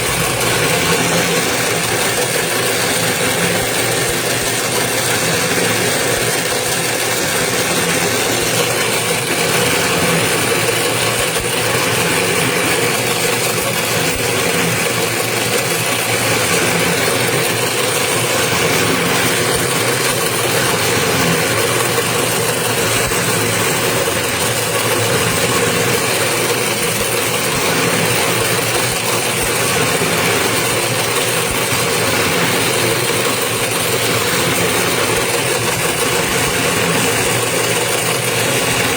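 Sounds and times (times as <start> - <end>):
winding machine motor humming: 0.0 - 38.9.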